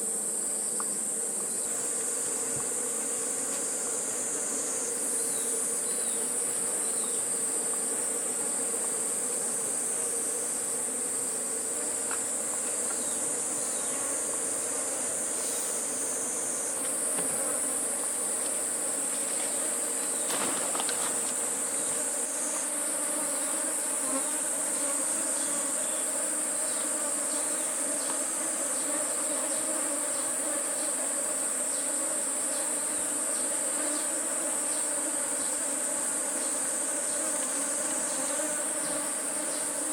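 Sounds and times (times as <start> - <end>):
honeybees buzzing: 0.0 - 39.9
insects droning: 0.0 - 39.9.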